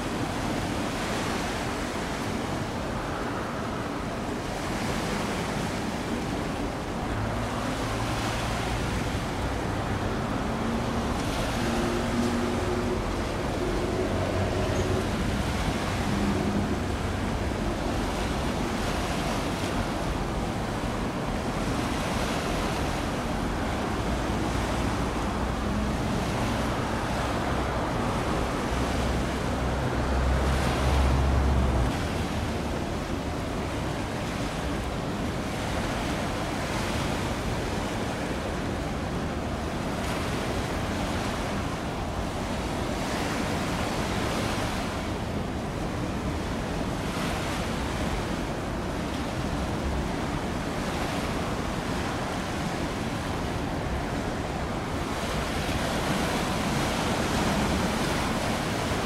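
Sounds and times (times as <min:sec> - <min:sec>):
moving water: 0:00.0 - 0:59.0.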